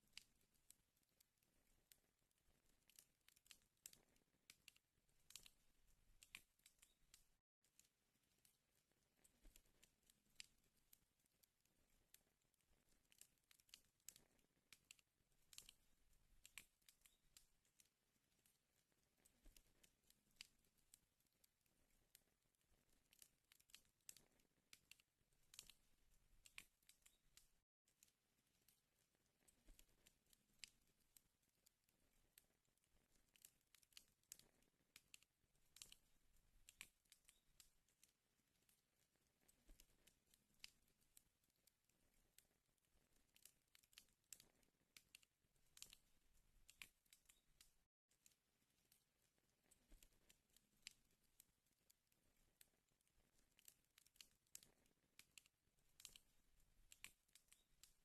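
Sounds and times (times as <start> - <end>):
wood fire crackling: 0.0 - 27.6, 28.4 - 31.2, 31.9 - 38.8, 39.4 - 41.1, 42.0 - 47.8, 52.2 - 58.0.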